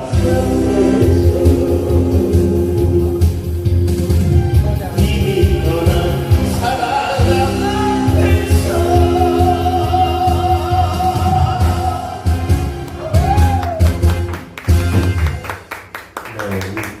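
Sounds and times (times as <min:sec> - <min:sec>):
person singing live: 0:00.0 - 0:13.8
backing track with bass beat: 0:00.0 - 0:15.6.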